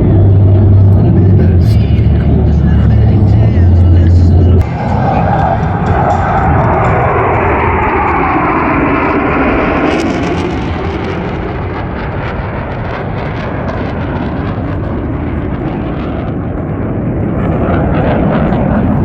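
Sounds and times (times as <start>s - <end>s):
fighter jet flying over: 0.0s - 19.0s.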